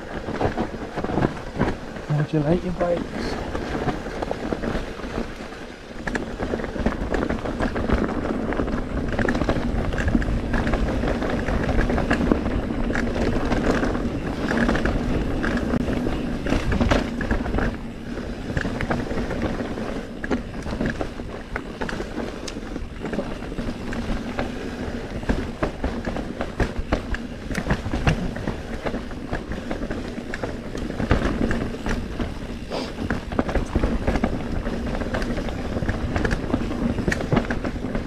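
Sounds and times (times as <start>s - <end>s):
bike rattling over bumps: 0.0s - 38.0s
bike tyres rushing on dirt: 0.0s - 38.0s
wind on microphone: 0.0s - 38.0s.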